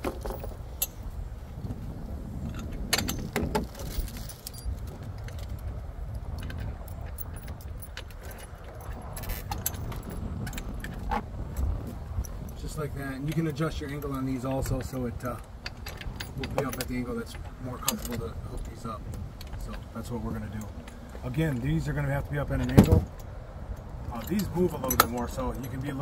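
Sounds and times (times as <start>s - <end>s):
metal bolts clinking and rattling: 0.0s - 1.3s, 2.4s - 26.0s
steady low rumble: 0.0s - 26.0s.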